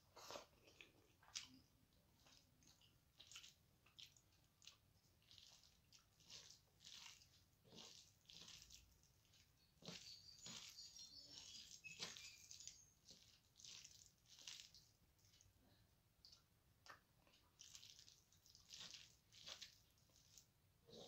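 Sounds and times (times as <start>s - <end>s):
fingers squishing mashed food: 0.1s - 21.0s.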